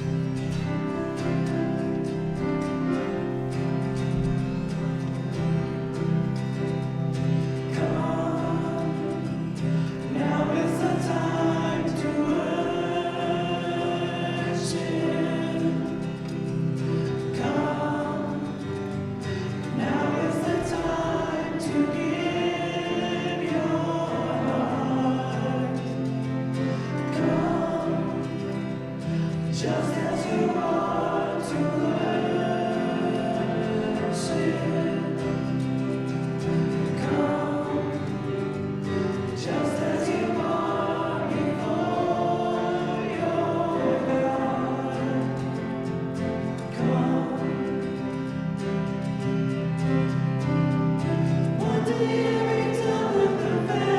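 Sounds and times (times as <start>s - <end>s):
group singing a hymn: 0.0s - 53.9s.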